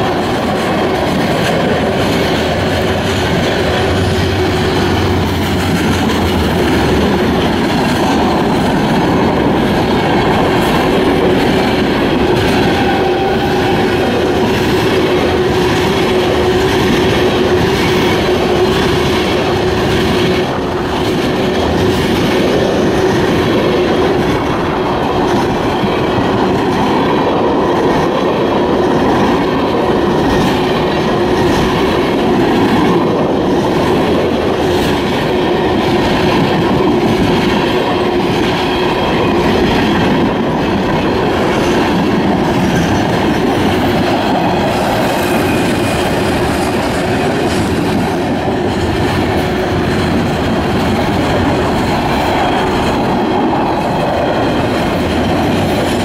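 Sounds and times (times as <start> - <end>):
train wheels clacking over rails: 0.0 - 56.0.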